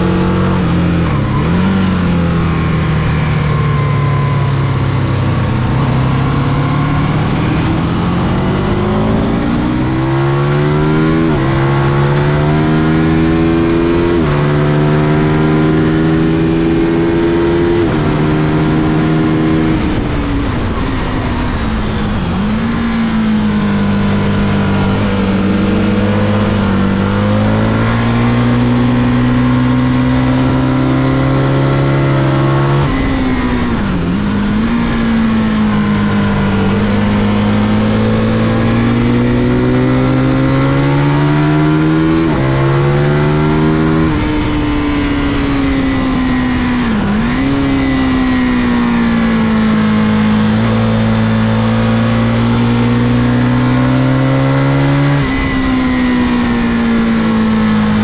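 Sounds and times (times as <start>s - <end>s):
race motorcycle engine at full throttle: 0.0s - 58.0s.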